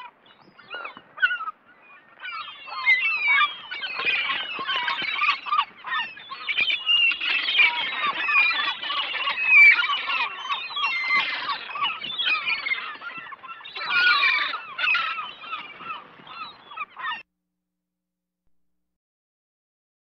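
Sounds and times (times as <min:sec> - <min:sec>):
gulls squawking: 0:00.0 - 0:17.2.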